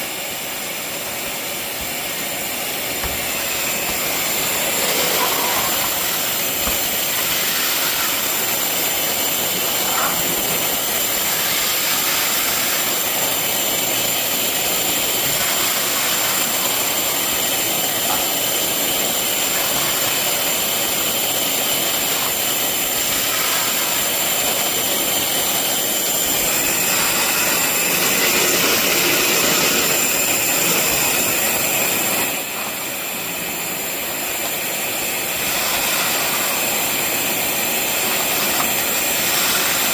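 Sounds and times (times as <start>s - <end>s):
industrial vacuum whining: 0.0s - 39.9s.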